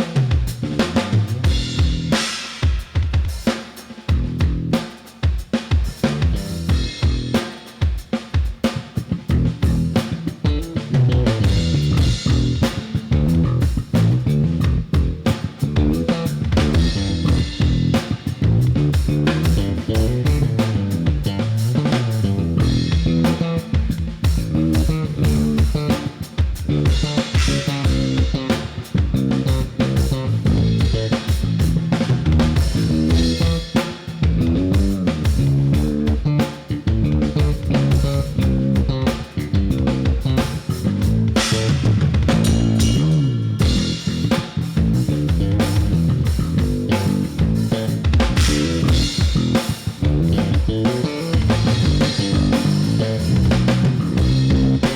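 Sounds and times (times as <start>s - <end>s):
walking bass line: 0.0s - 2.2s, 4.1s - 4.8s, 5.9s - 7.4s, 8.8s - 54.9s
drum kit: 0.0s - 54.9s
guitar: 9.0s - 54.9s.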